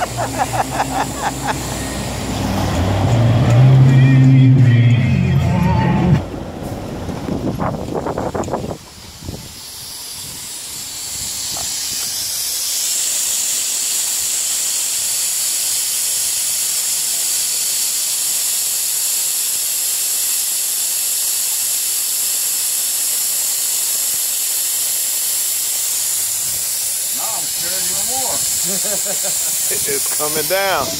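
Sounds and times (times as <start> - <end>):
compressed air hissing: 0.0 - 3.4, 7.4 - 30.9.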